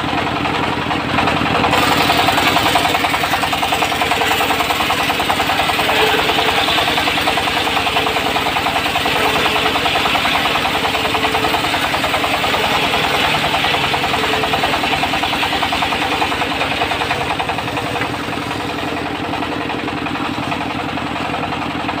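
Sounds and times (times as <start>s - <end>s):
sawmill diesel engine knocking: 0.0s - 22.0s.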